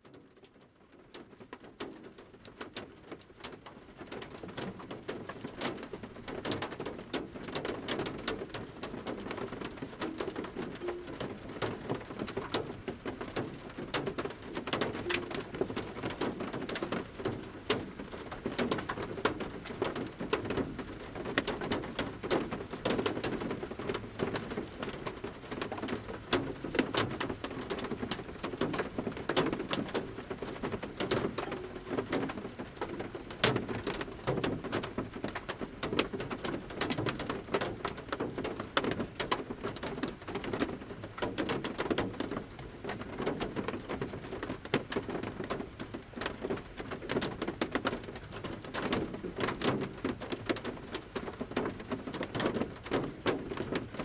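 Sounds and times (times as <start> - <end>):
light rain patter: 0.0 - 54.0
raindrops tapping a metal roof: 0.0 - 54.0.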